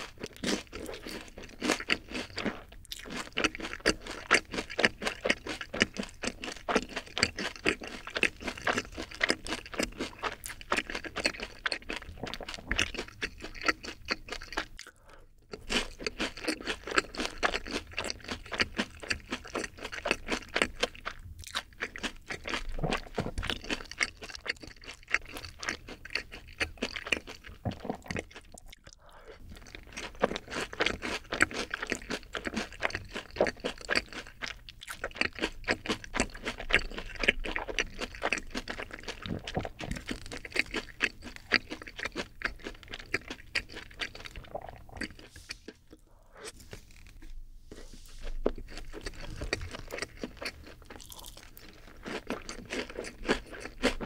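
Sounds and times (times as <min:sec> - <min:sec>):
crunchy chewing of fried chicken: 0:00.0 - 0:54.0.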